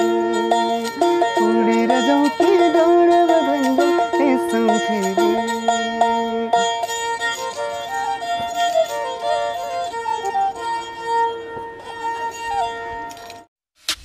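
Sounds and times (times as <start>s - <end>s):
bowed string folk melody: 0.0s - 13.5s.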